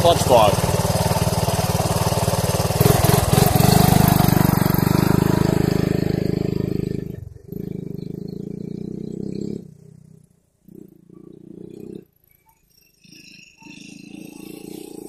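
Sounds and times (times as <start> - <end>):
small motorcycle engine: 0.0 - 15.0.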